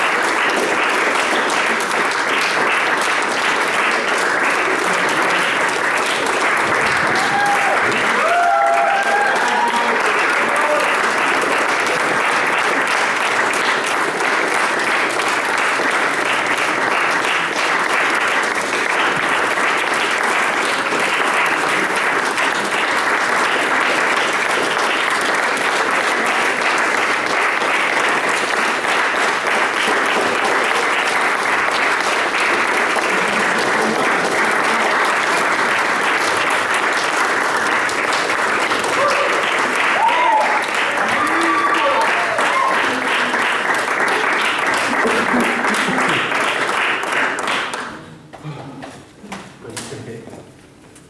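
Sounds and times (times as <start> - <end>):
group applauding: 0.0 - 50.2.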